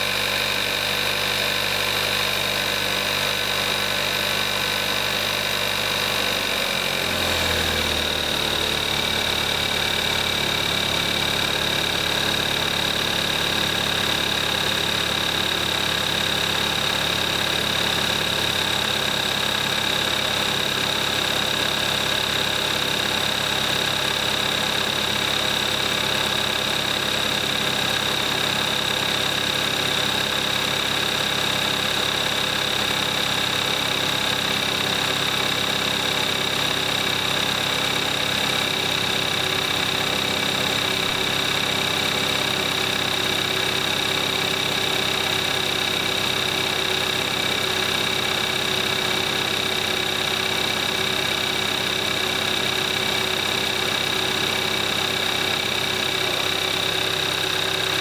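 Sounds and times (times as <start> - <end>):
car engine idling: 4.4 - 58.0.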